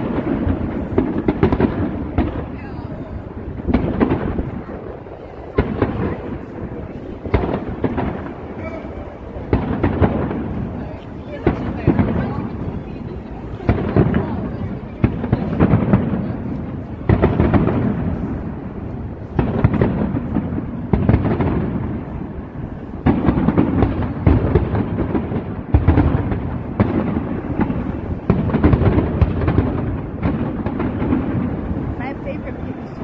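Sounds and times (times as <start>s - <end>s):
distant fireworks booms: 0.0s - 33.0s.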